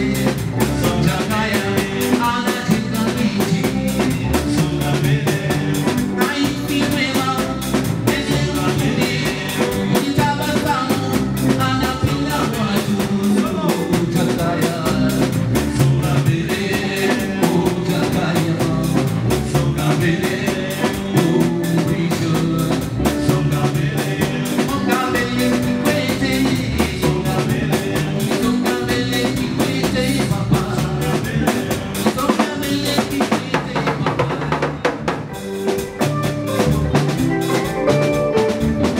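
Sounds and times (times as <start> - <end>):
man singing into a microphone: 0.0 - 35.2
drum kit beat: 0.0 - 38.9
electric guitar: 0.0 - 38.9.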